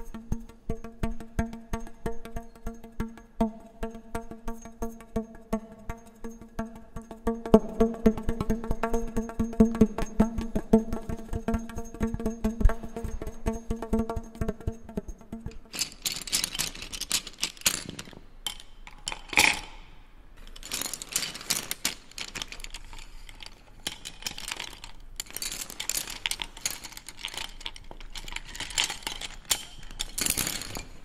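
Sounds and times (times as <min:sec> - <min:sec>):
irregular clicking and rattling: 0:00.0 - 0:31.0.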